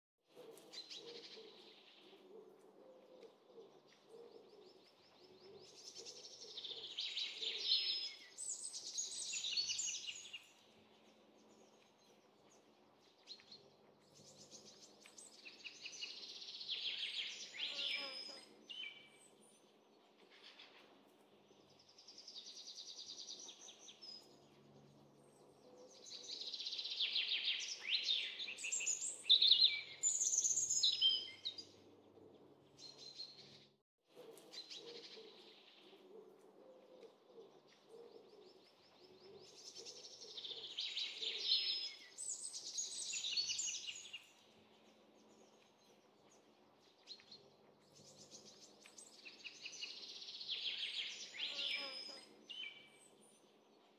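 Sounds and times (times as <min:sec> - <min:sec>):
small birds chirping and trilling: 0:03.7 - 0:33.8, 0:37.2 - 0:53.9.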